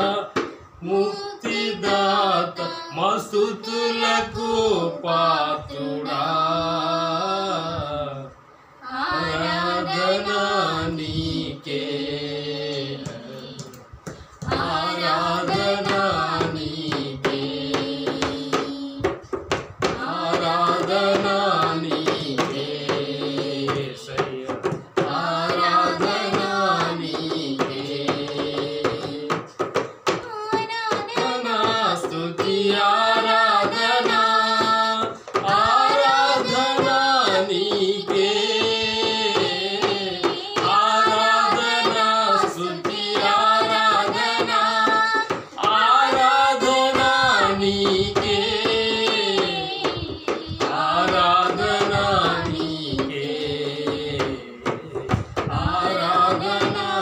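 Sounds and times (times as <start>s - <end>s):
man singing worship song: 0.0s - 30.0s, 31.1s - 57.0s.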